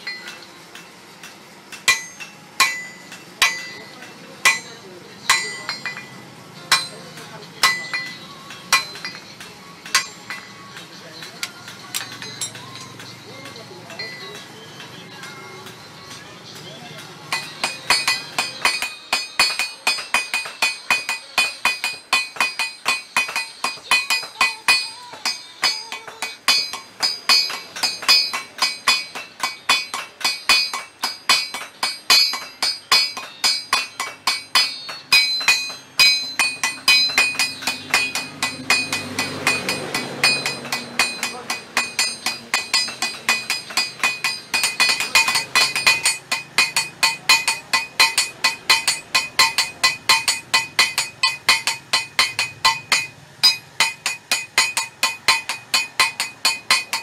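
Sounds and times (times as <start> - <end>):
hammer striking blade on anvil: 0.0 - 16.2, 17.0 - 57.0.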